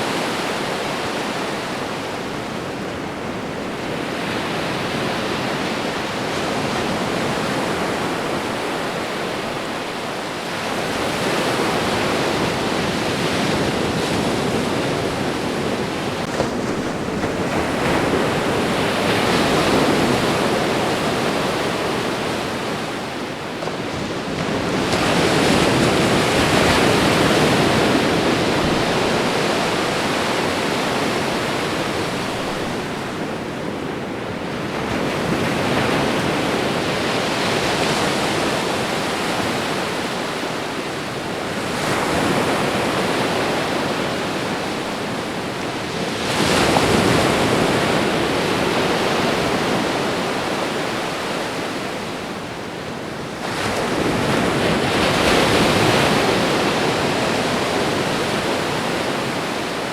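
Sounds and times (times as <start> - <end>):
ocean surf washing onto shore: 0.0 - 59.9.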